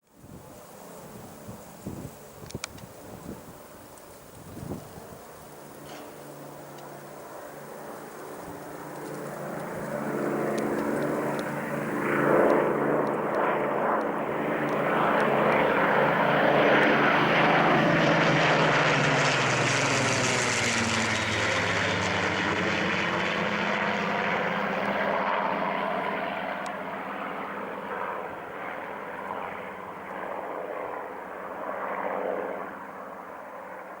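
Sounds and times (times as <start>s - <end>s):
propeller aircraft flying past low: 0.1s - 34.0s.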